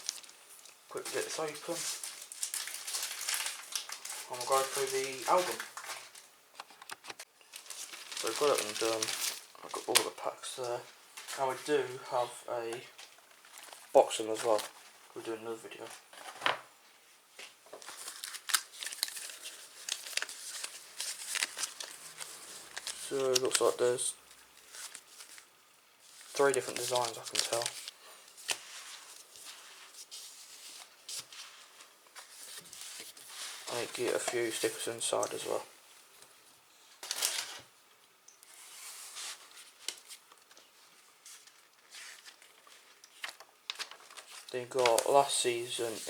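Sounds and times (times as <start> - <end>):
album pages rustling: 0.0 - 16.6, 17.3 - 35.6, 37.0 - 37.7, 38.5 - 46.0
plastic wrapping and paper crinkling: 0.0 - 16.6, 17.2 - 37.8, 38.4 - 46.0.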